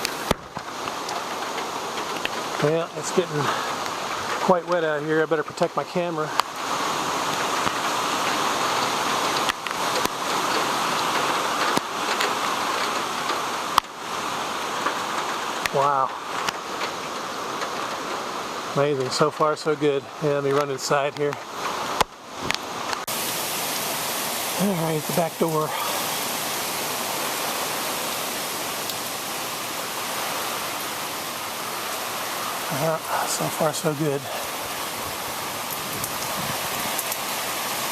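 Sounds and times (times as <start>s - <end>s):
rain pouring in windy storm: 0.0s - 37.9s.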